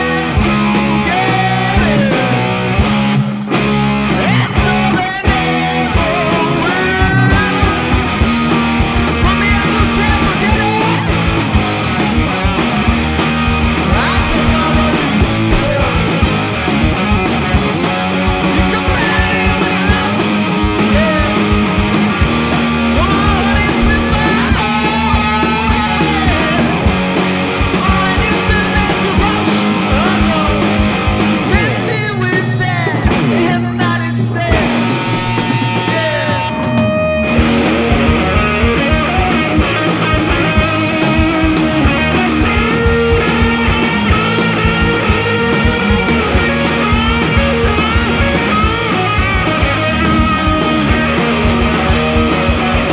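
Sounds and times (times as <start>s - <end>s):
rock band playing: 0.0s - 52.9s.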